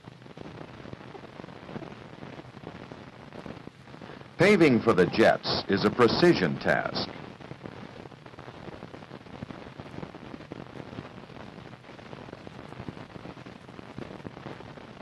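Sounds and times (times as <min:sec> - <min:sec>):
film soundtrack hiss and crackle: 0:00.0 - 0:15.0.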